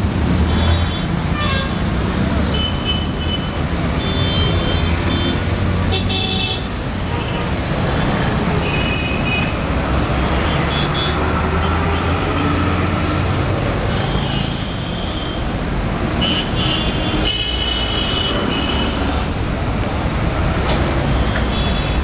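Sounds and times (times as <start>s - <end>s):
bus engines rumbling: 0.0s - 22.0s
city traffic noise: 0.0s - 22.0s.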